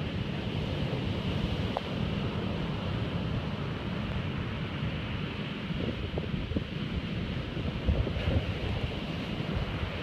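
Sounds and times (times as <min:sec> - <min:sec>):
storm surf breaking on beach: 0:00.0 - 0:10.0
wind buffeting microphone: 0:00.0 - 0:10.0.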